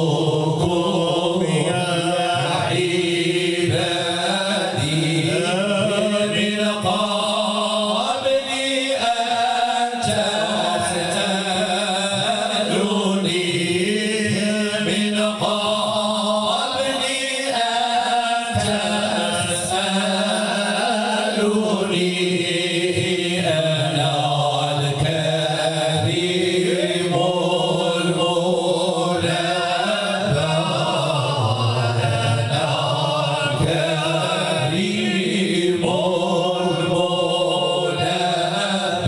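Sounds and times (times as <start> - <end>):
men chanting praise song: 0.0 - 39.0.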